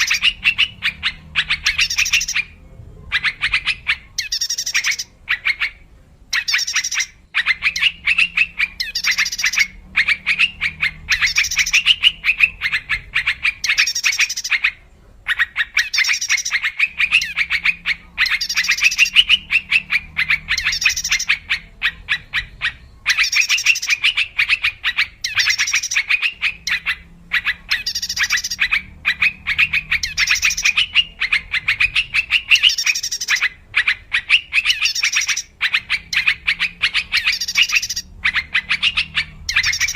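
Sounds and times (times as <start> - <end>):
bird chattering: 0.0 - 39.9
faint low hum: 0.0 - 39.9.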